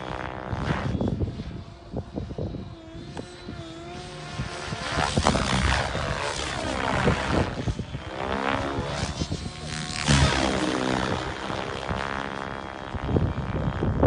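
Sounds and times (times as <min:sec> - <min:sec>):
radio-controlled helicopter flying: 0:00.0 - 0:14.0
wind buffeting microphone: 0:00.0 - 0:14.0.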